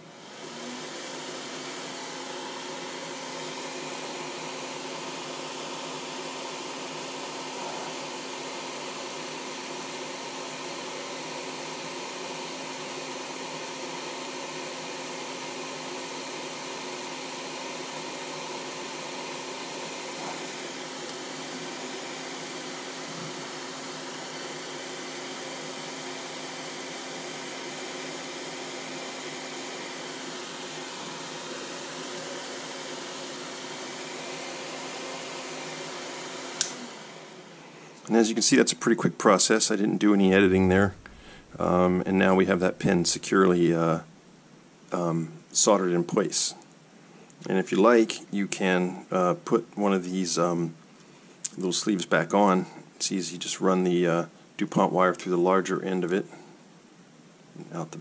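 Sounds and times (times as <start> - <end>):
extractor fan running: 0.0 - 56.7.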